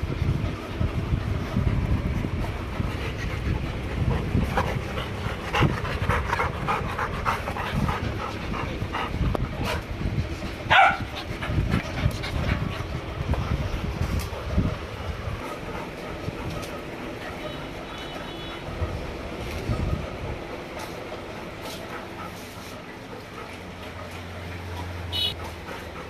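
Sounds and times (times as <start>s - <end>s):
wind rumble: 0.0s - 17.3s, 18.4s - 22.2s
dogs panting: 0.0s - 26.0s.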